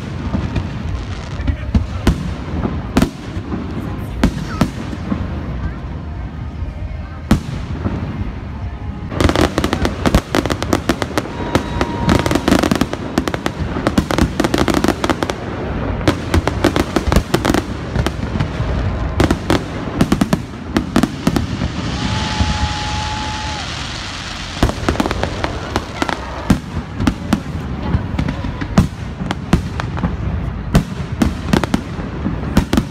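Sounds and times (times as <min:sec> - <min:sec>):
hissing crackle of fireworks: 0:00.0 - 0:32.9.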